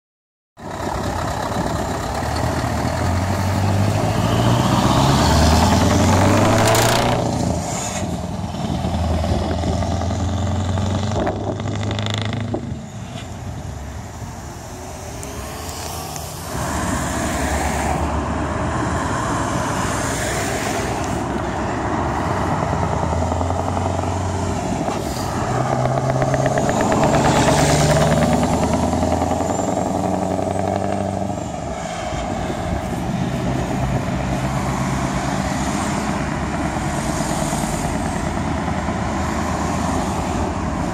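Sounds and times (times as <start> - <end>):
truck diesel engine accelerating: 0.6 - 40.9.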